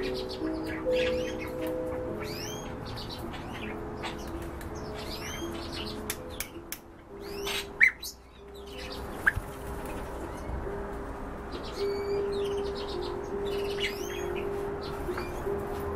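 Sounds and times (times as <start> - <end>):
cage birds chirping: 0.0 - 15.9.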